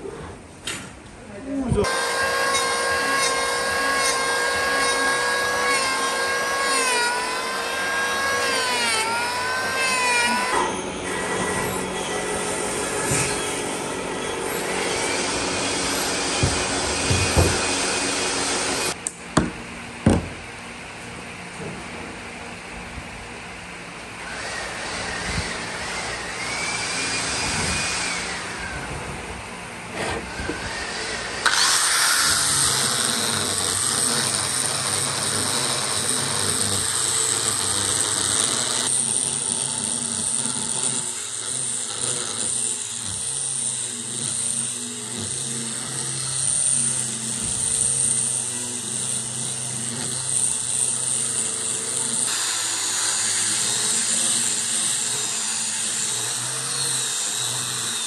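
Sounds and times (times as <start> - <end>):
power tools running: 1.7 - 22.0, 23.7 - 58.0.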